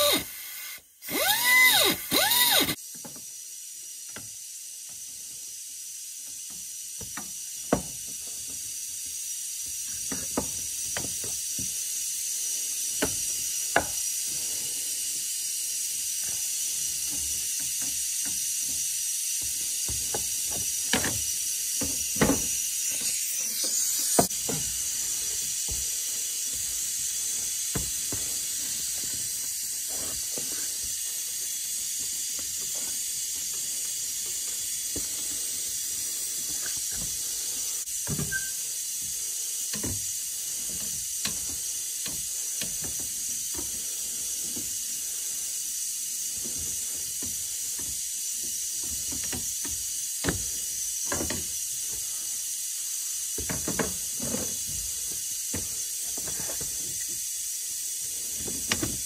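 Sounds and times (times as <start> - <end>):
steady high hiss: 0.0 - 59.0.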